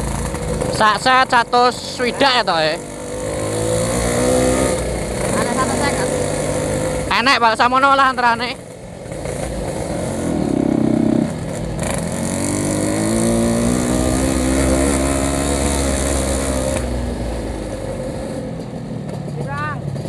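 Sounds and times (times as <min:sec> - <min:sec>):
two-stroke motorcycle engine accelerating: 0:00.0 - 0:20.0.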